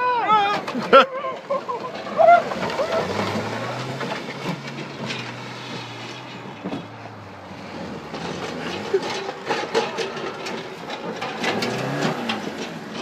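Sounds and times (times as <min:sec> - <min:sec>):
car engine hum: 0:00.0 - 0:13.0
clattering and knocking: 0:00.2 - 0:13.0.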